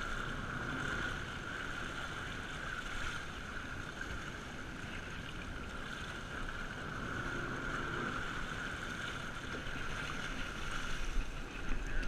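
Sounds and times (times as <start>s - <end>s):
steady high hum: 0.0s - 12.0s
water rushing and splashing: 0.0s - 12.0s.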